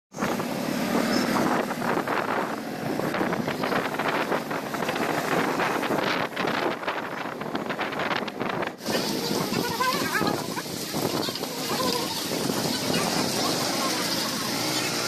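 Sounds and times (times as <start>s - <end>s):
wind buffeting microphone: 0.1s - 15.0s
heavy rain: 0.2s - 7.5s, 8.7s - 15.0s.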